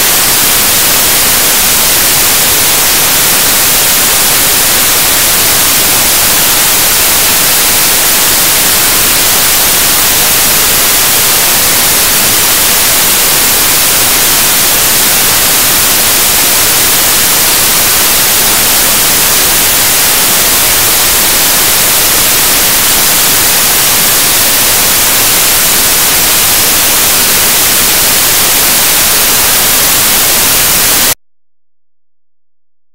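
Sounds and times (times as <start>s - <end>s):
static hiss: 0.0s - 31.2s.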